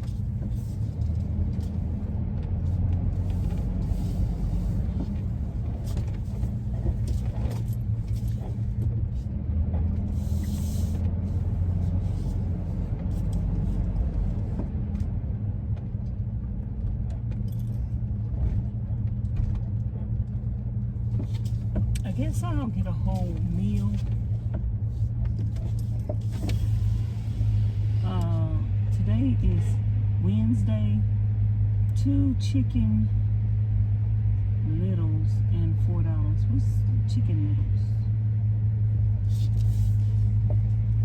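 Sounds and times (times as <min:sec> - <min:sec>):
road and engine drone in van: 0:00.0 - 0:41.0.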